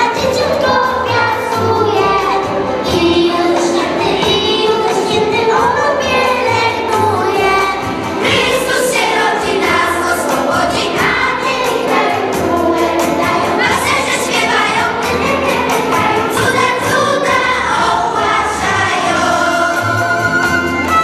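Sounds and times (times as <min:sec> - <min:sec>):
backing music: 0:00.0 - 0:21.0
children's choir singing: 0:00.0 - 0:21.0.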